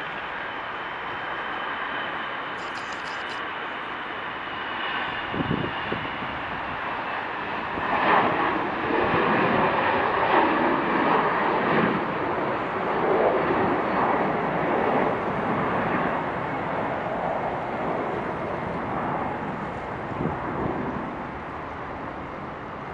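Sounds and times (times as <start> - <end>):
jet engines at takeoff: 0.0 - 22.9.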